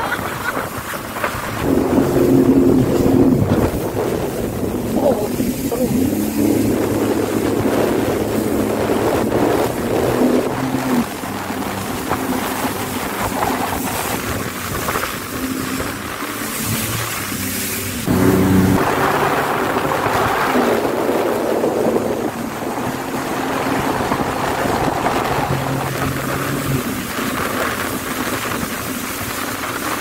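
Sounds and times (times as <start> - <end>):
jet ski engine running: 0.0 - 30.0
wind buffeting microphone: 0.0 - 30.0.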